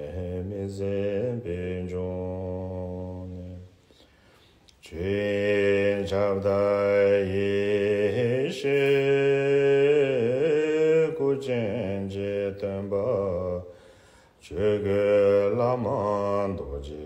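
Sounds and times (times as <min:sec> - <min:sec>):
man chanting prayer: 0:00.0 - 0:03.7, 0:04.8 - 0:13.7, 0:14.4 - 0:17.0.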